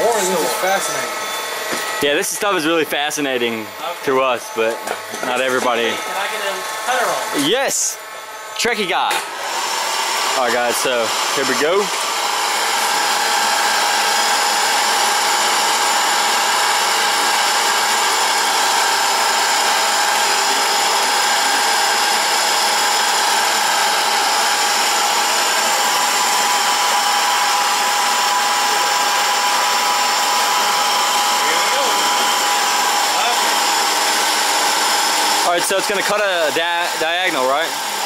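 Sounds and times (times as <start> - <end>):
milling machine whine: 0.0 - 38.0.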